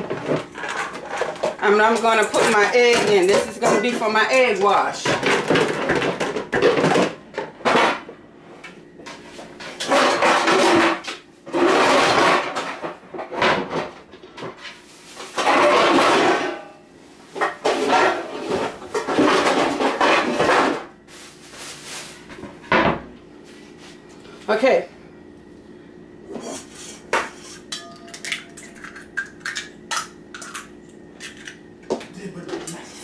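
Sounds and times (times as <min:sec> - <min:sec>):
dishes clattering and scraping: 0:00.0 - 0:08.1, 0:09.1 - 0:20.9, 0:26.3 - 0:32.9.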